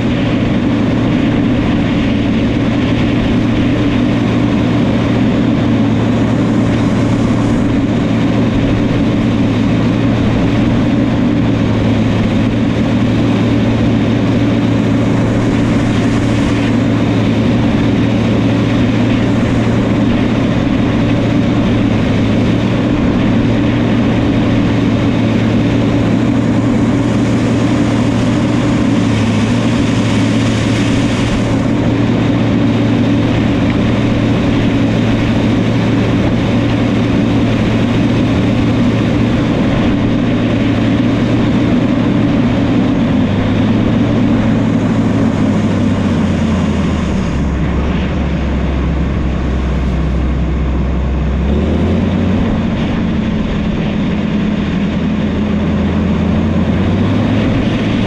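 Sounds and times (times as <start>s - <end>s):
diesel engine running at high revs: 0.0s - 58.0s.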